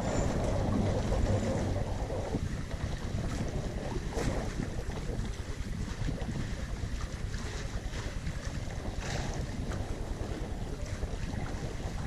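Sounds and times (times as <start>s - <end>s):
water rushing along hulls: 0.0s - 12.0s
wind buffeting microphone: 0.0s - 12.0s.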